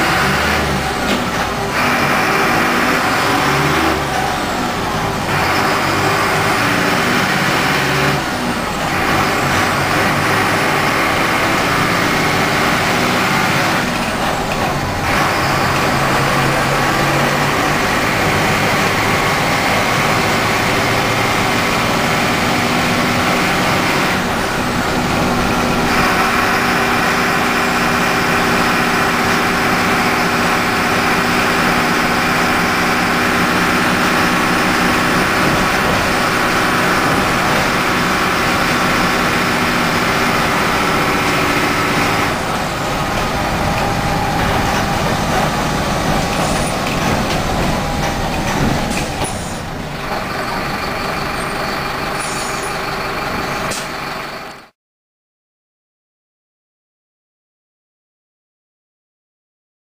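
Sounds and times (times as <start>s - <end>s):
bus diesel engine running: 0.0s - 54.8s.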